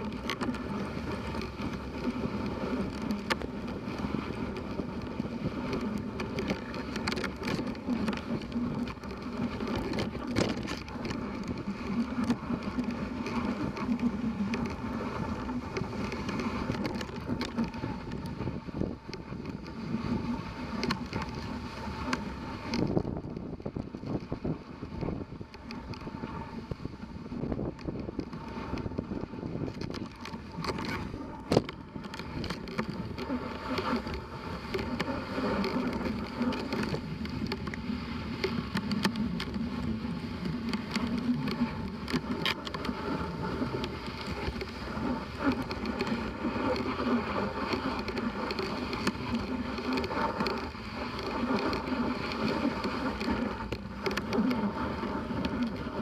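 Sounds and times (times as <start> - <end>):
sled clicks and knocks: 0.0 - 56.0.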